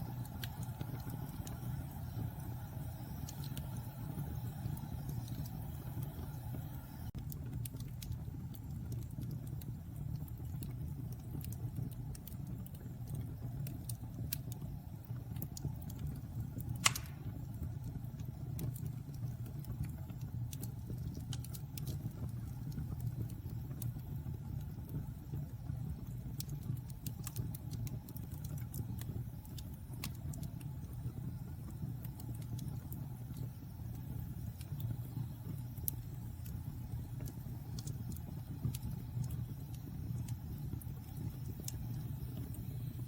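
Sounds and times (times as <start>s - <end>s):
fire popping: 0.0s - 43.0s
wood fire crackling: 0.0s - 43.0s.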